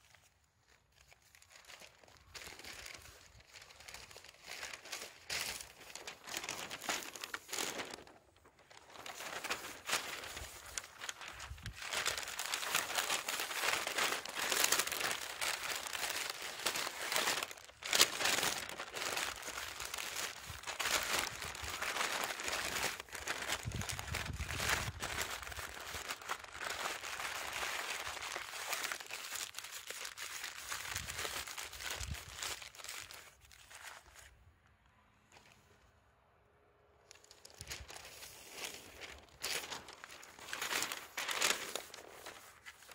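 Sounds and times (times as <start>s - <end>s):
newspaper crinkling and rustling: 0.0s - 34.4s, 37.1s - 42.9s.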